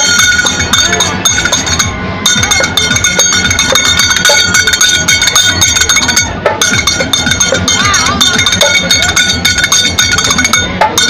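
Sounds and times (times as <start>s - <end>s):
drums beating: 0.0s - 11.0s
hand cymbals clashing: 0.0s - 11.0s.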